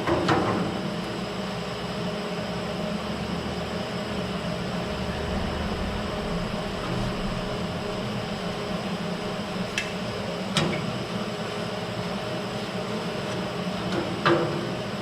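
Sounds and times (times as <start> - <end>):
workshop fan hum: 0.0 - 15.0.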